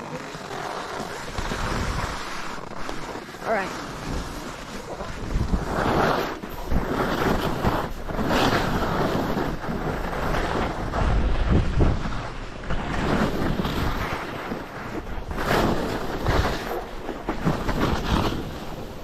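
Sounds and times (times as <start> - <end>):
skis scraping through snow: 0.0 - 19.0
wind rushing over microphone: 0.0 - 19.0.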